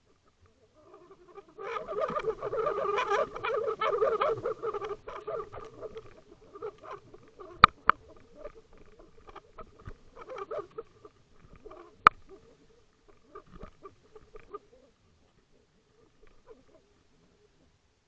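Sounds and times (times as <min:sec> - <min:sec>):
underwater rattling croaking pulses: 0:00.0 - 0:17.6.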